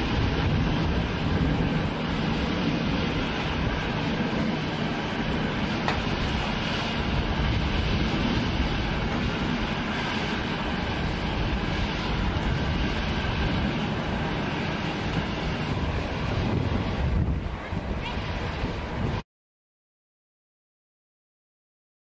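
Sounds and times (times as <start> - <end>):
distant jet engines rumbling: 0.0 - 19.2.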